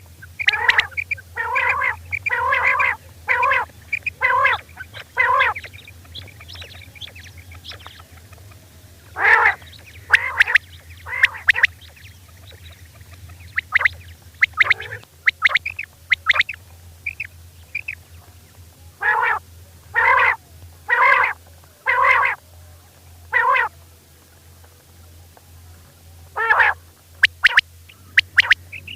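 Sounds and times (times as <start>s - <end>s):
faint steady hum: 0.0s - 28.9s
quail calling: 0.2s - 18.1s, 19.0s - 22.4s, 23.2s - 23.7s, 26.3s - 28.9s.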